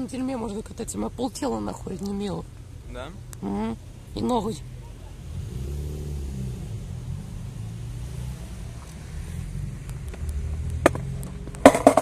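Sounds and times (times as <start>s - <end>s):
vehicle engine rumbling by: 1.8s - 12.0s.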